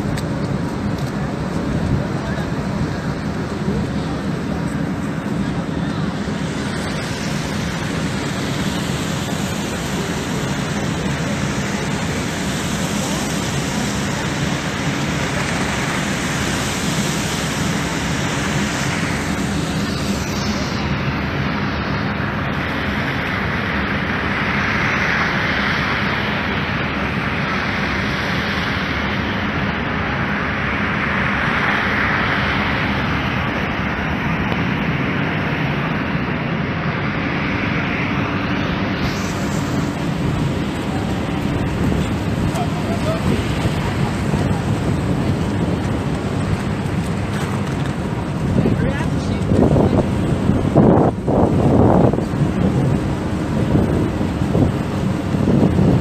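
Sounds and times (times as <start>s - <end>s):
traffic: 0.0s - 56.0s
wind: 0.0s - 56.0s.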